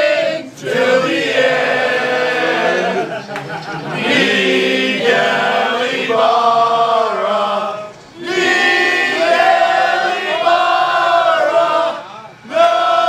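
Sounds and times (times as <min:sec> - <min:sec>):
men singing a chant: 0:00.0 - 0:13.0.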